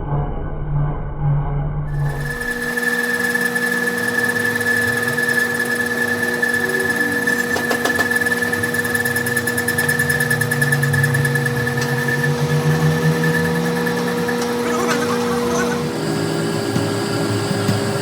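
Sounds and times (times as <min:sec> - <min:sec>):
machine humming: 0:01.9 - 0:18.0.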